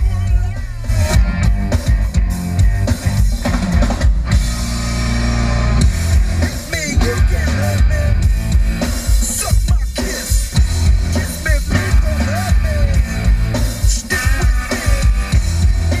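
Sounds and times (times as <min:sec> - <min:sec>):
rock music in a car: 0:00.0 - 0:16.0.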